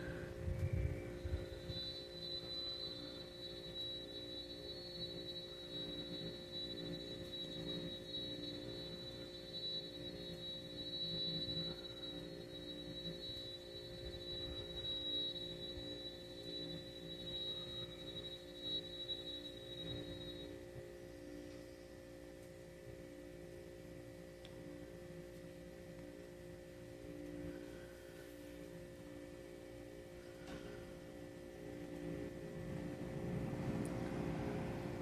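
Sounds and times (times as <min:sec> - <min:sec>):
high-pitched whine: 0:00.0 - 0:35.0
low steady hum: 0:00.0 - 0:35.0.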